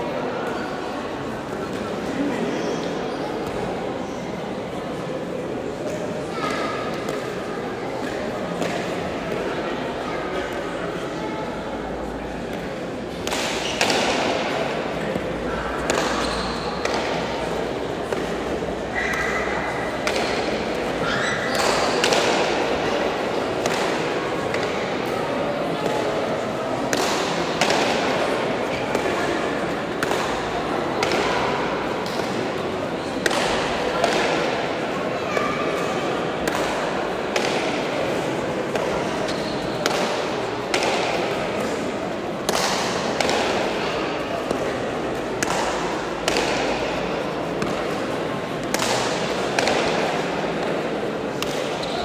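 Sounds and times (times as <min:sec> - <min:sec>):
murmur of voices: 0:00.0 - 0:52.0.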